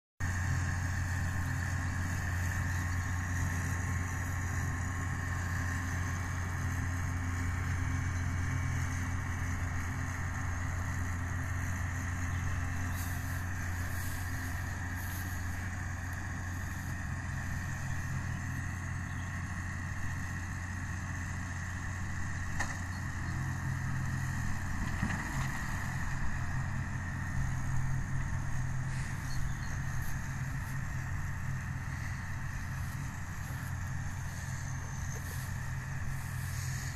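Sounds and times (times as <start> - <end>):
tractor diesel engine running: 0.2 - 36.9.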